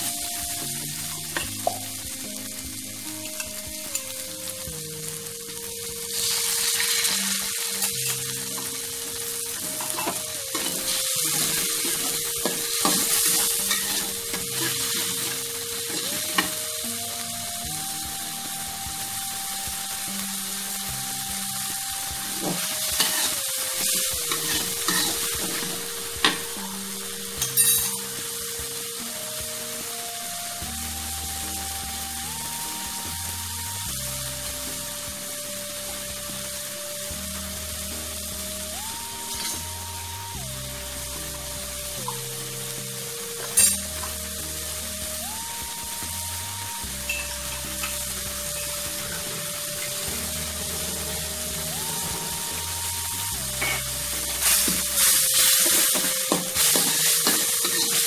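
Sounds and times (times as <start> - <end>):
food frying in hot oil: 0.0 - 58.0.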